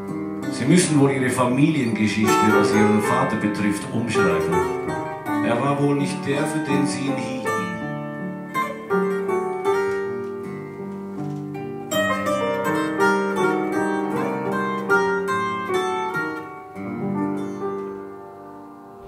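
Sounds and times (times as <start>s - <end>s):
piano chords: 0.0s - 19.0s
plucked mandolin notes: 0.0s - 19.0s.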